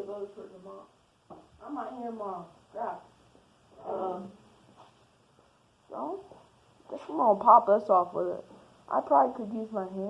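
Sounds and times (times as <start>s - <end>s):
low room tone: 0.0s - 10.0s.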